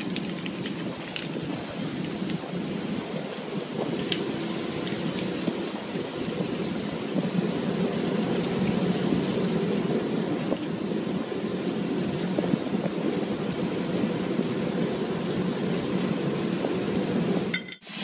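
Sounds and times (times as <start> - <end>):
sea water rushing and splashing: 0.0 - 17.5
rain-like patter: 0.0 - 18.0.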